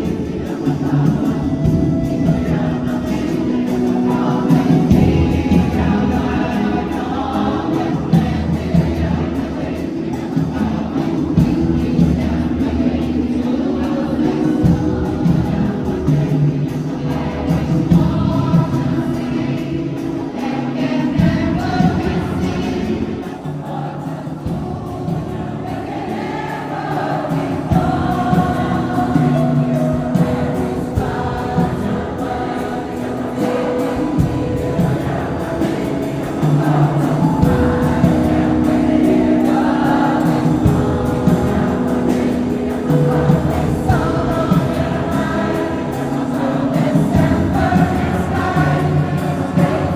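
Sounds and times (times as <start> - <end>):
choir singing sustained chords: 0.0 - 49.9.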